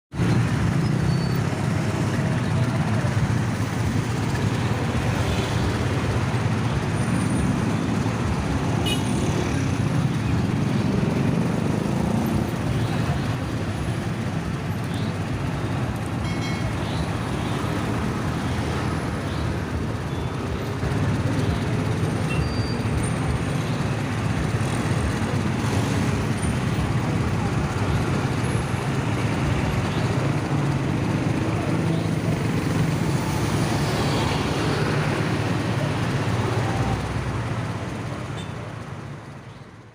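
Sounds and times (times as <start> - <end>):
busy road traffic: 0.1 - 39.9.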